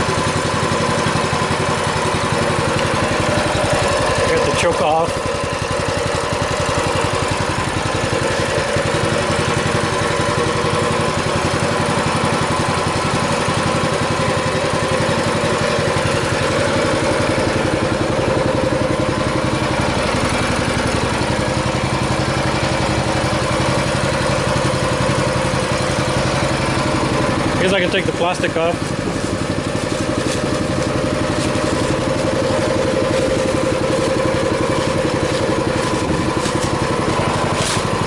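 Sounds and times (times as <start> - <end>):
small engine idling: 0.0 - 38.0.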